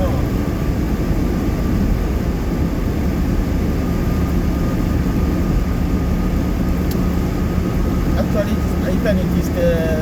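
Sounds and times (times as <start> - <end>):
car driving on wet road: 0.0 - 10.0.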